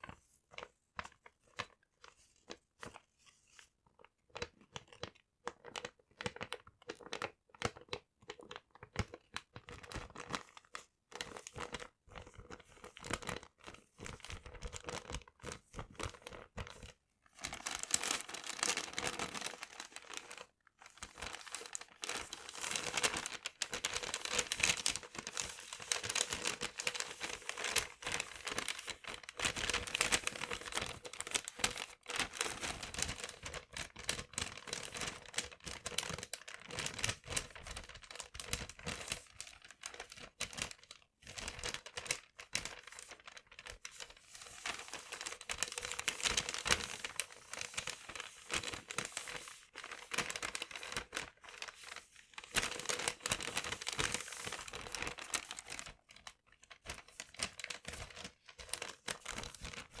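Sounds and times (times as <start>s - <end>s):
paper crinkling and rustling: 8.4s - 60.0s.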